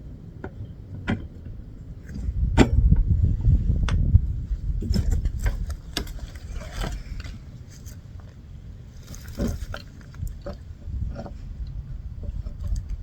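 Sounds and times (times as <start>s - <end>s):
low rumble: 1.4s - 13.0s.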